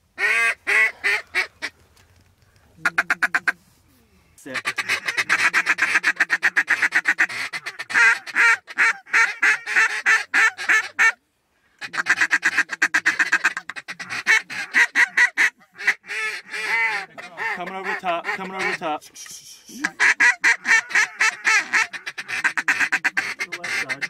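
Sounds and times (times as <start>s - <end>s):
duck call quacking: 0.2s - 1.7s, 2.8s - 3.6s, 4.4s - 11.2s, 11.8s - 24.0s.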